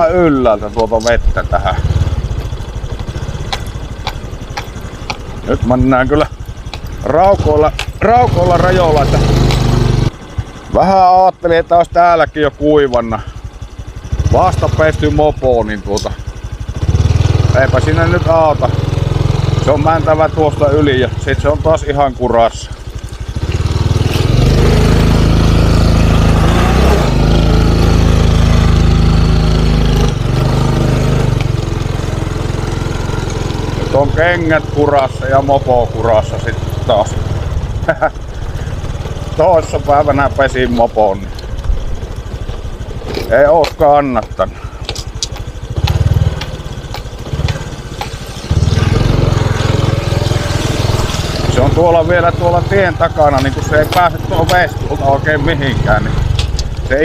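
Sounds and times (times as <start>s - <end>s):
moped engine under throttle: 0.0s - 57.0s.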